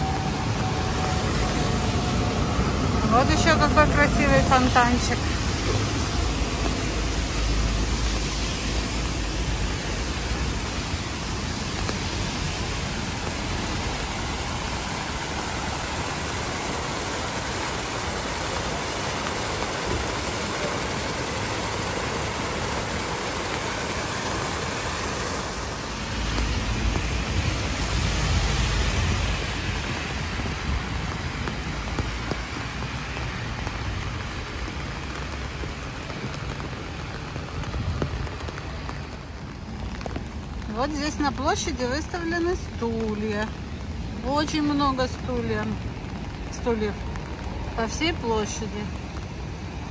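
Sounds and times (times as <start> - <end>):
fountain water spilling into basin: 0.0 - 43.3
cars hissing on wet street: 0.0 - 49.9
low rumble of passing traffic: 0.0 - 49.9
rain: 0.0 - 49.9.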